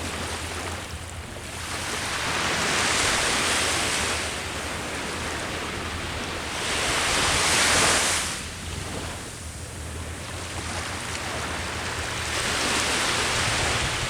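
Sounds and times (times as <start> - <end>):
low rumble of surf: 0.0 - 14.0
sea waves washing onto shore: 0.0 - 14.0.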